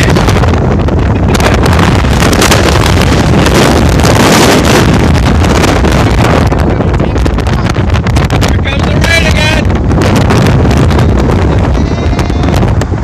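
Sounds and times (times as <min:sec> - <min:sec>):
truck road noise: 0:00.0 - 0:13.0
wind buffeting microphone: 0:00.0 - 0:13.0.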